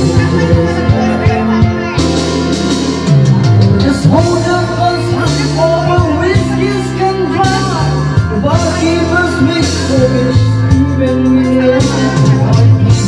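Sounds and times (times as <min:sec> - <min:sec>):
man singing into microphone: 0:00.0 - 0:02.1, 0:03.7 - 0:13.0
backing track with bass line: 0:00.0 - 0:13.0.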